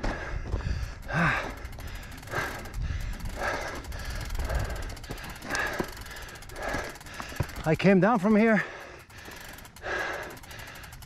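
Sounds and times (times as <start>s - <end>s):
bicycle freewheel ticking: 0.8s - 11.0s.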